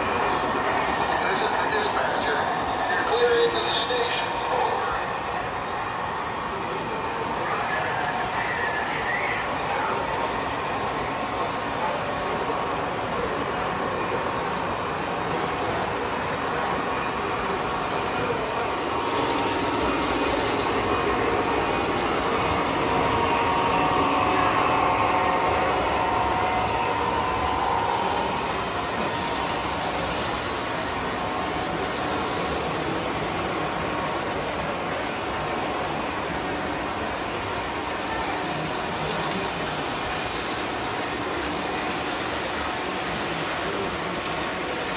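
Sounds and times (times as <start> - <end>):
model train wheels rolling on rail: 0.0 - 44.9.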